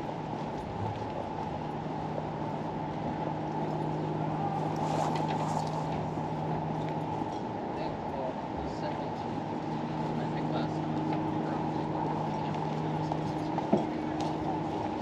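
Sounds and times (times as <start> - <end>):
engine humming: 0.0 - 15.0
low outdoor rumble: 0.0 - 15.0.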